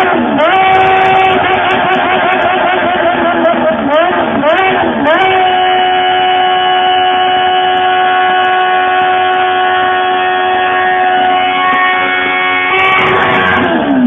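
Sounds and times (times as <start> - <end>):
motorcycle engine at high revs: 0.0 - 14.0.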